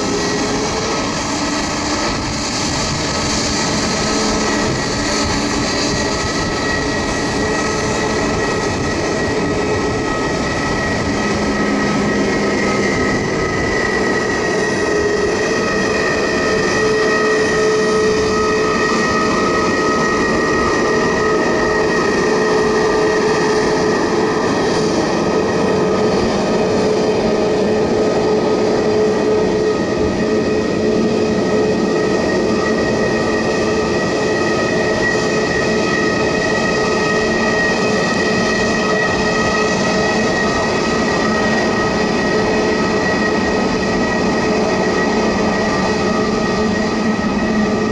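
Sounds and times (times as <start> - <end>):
jet engines running: 0.0 - 47.9.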